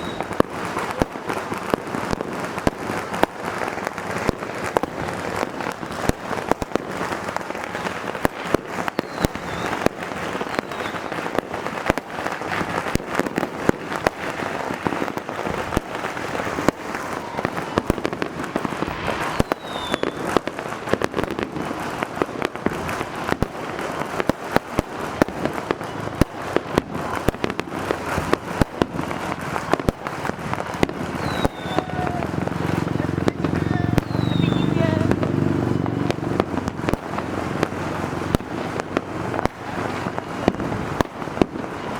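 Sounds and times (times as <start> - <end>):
fireworks bangs and crackles: 0.0 - 41.9
fireworks falling whistle: 0.0 - 41.9.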